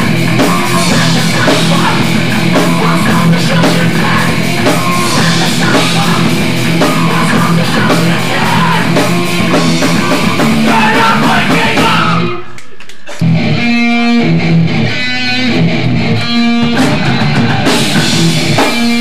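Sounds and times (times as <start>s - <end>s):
distorted guitar chugging riff: 0.0s - 12.5s, 13.2s - 19.0s
punk band playing live: 0.0s - 12.5s, 13.2s - 19.0s.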